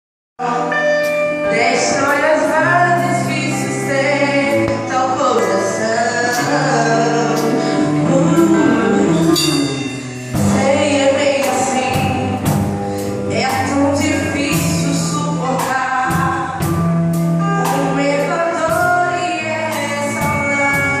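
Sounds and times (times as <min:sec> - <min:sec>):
gospel singers with band: 0:00.4 - 0:21.0.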